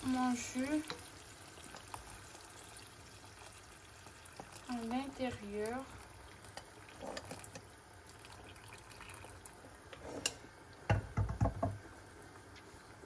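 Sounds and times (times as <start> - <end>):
broth pouring into a saucepan: 0.0 - 13.0.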